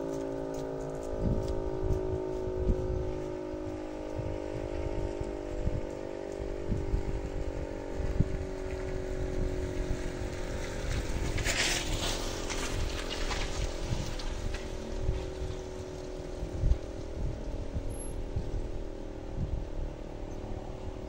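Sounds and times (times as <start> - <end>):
siren steady tone: 0.0 - 21.0
wind rumble on microphone: 0.0 - 21.0.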